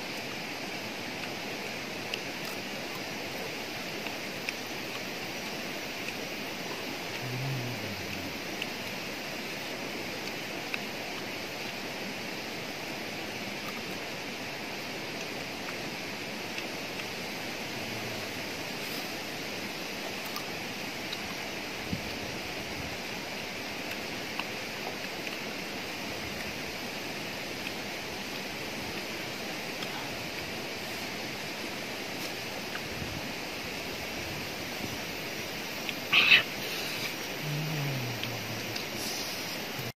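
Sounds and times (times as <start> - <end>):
outdoor rushing hiss: 0.0 - 39.9.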